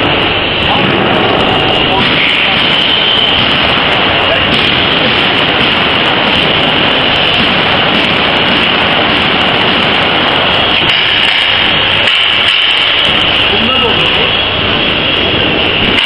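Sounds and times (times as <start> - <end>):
machine running: 0.0 - 16.0.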